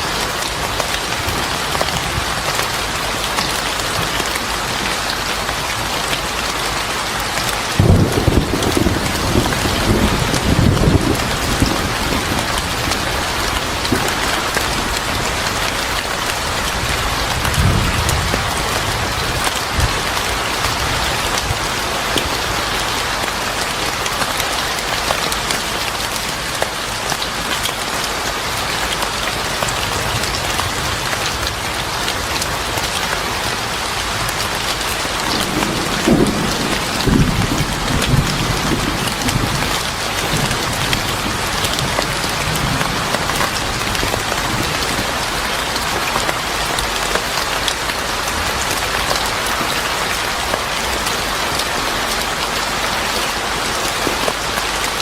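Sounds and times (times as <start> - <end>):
rain falling on a porch: 0.0 - 55.0.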